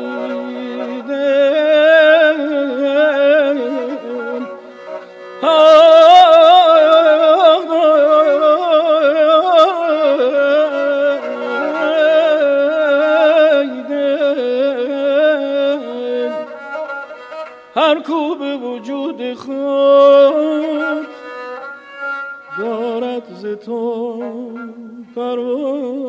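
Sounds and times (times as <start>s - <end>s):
wavering bowed-string melody: 0.0s - 26.0s.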